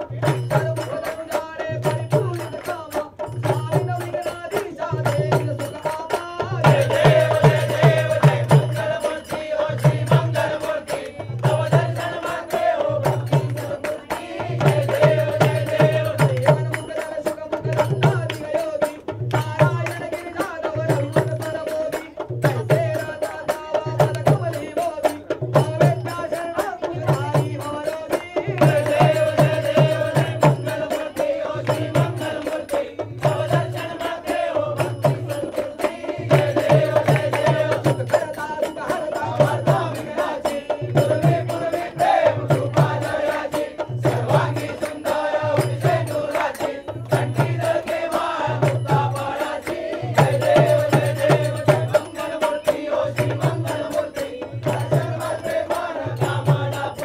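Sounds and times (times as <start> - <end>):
chanted singing: 0.0 - 57.0.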